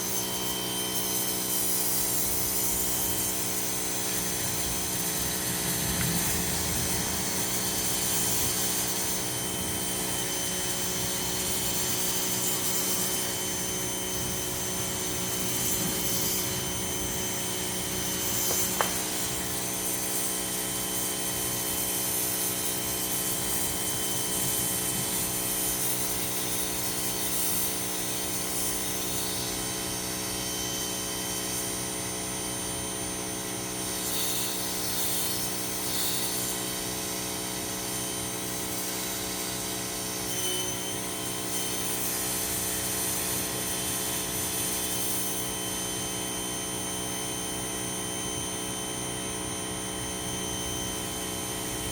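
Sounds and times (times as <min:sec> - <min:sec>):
pressure washer motor drone: 0:00.0 - 0:51.9.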